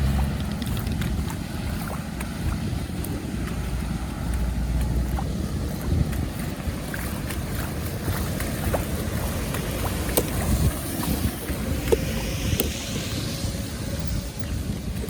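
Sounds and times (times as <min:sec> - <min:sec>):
moving water: 0:00.0 - 0:15.0
wind buffeting microphone: 0:00.0 - 0:15.0.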